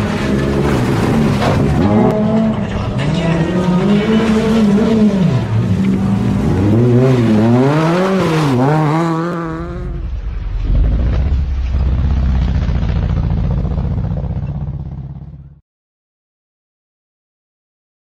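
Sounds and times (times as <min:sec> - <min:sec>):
race car engine revving: 0:00.0 - 0:15.6.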